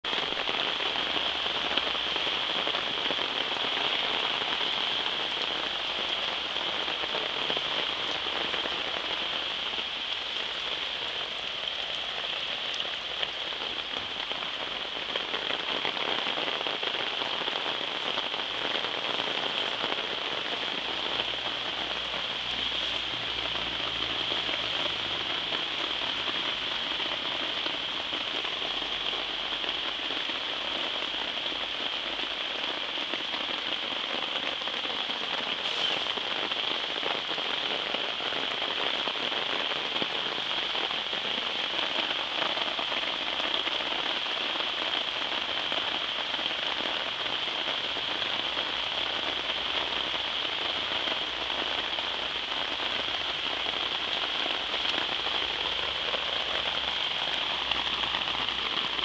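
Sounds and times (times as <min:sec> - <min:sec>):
heavy rain on plants: 0:00.0 - 0:59.0.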